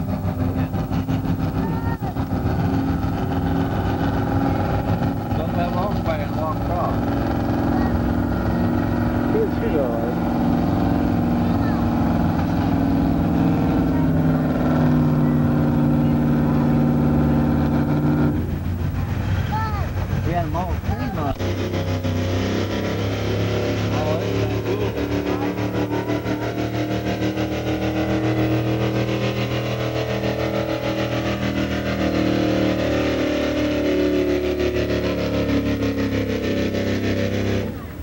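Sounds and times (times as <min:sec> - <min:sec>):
truck engine at high revs: 0:00.0 - 0:38.0.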